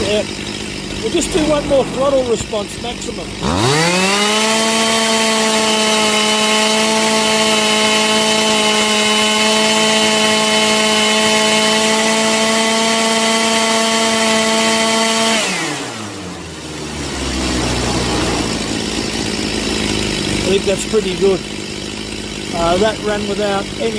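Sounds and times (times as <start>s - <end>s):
chainsaw engine revving: 0.0s - 23.9s.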